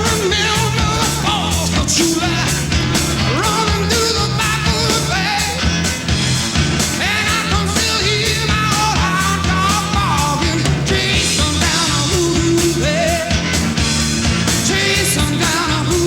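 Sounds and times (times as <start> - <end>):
person singing: 0.0 - 5.7, 7.0 - 13.6, 14.5 - 16.0
rock band with steady beat: 0.0 - 16.0.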